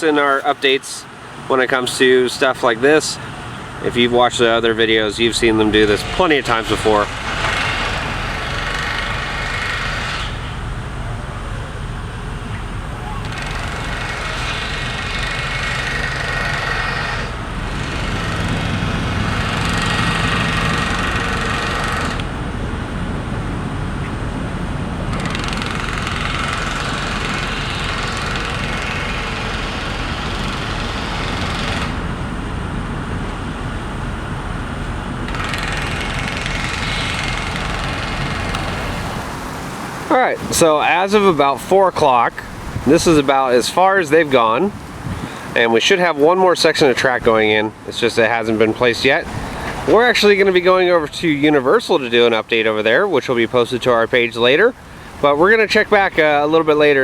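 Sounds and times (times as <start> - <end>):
heavy engine rumbling: 0.0 - 57.0.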